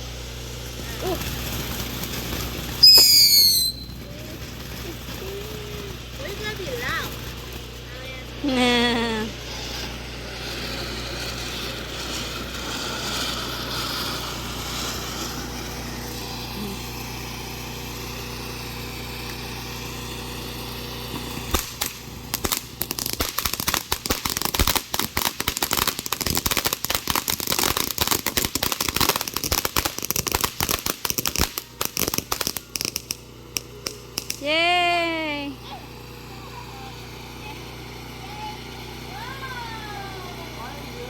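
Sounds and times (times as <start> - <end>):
firecrackers popping: 0.0 - 39.3.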